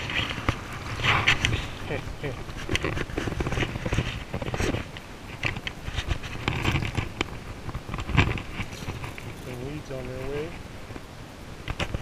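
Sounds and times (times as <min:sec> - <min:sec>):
handling noise on microphone: 0:00.0 - 0:11.1.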